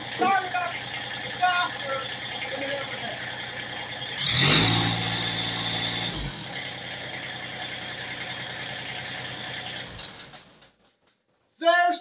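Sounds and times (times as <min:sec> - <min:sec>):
tractor diesel engine running: 0:00.0 - 0:10.7.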